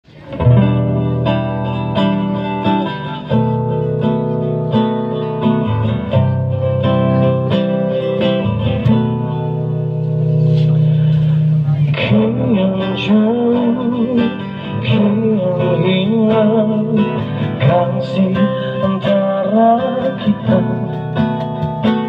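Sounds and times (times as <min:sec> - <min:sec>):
acoustic guitar chords: 0:00.0 - 0:22.0.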